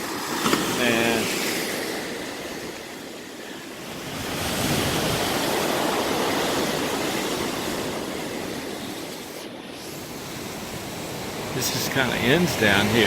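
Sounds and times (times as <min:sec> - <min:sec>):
sea wave breaking: 0:00.0 - 0:13.0.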